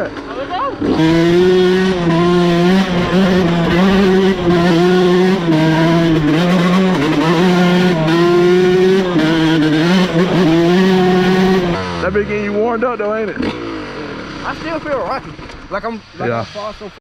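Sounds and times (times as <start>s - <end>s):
dirt bike engine revving: 0.0s - 16.7s.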